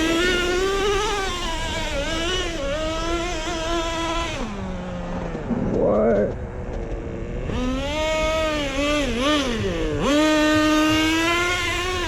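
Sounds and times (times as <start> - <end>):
rc truck engine revving: 0.0 - 12.0.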